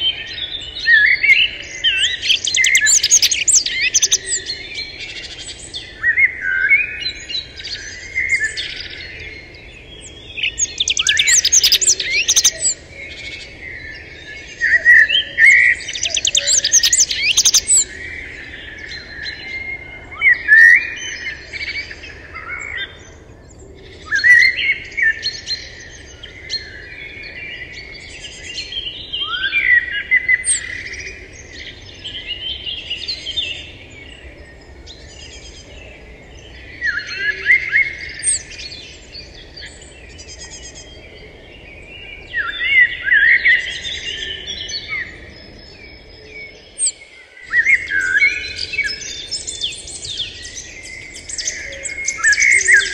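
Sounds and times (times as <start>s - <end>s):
birds chirping: 0.0s - 23.6s, 24.2s - 52.9s
faint outdoor background: 0.0s - 52.9s.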